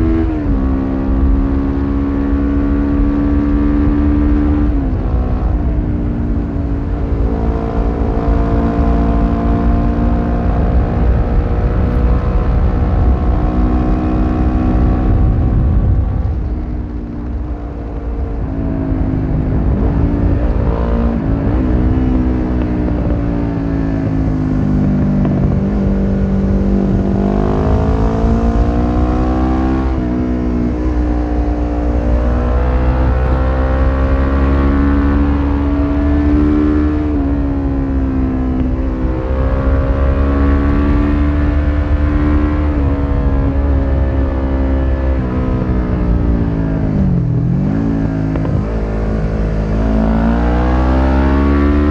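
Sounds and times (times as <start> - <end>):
low wind rush: 0.0 - 51.9
motorcycle engine revving: 0.0 - 51.9.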